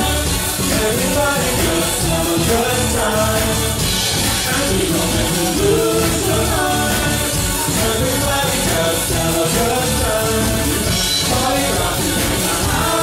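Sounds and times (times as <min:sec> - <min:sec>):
live band playing dance music: 0:00.0 - 0:13.0
person singing: 0:00.0 - 0:13.0.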